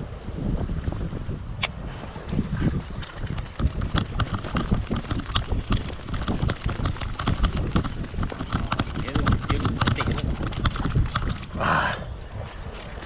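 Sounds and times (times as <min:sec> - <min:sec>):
waves slapping against hull: 0:00.0 - 0:13.0
wind buffeting microphone: 0:00.0 - 0:13.0.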